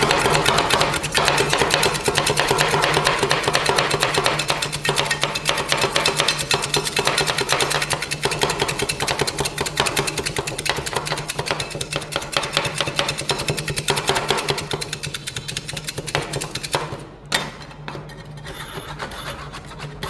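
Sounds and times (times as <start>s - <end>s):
metal spatulas tapping on steel: 0.0s - 17.0s.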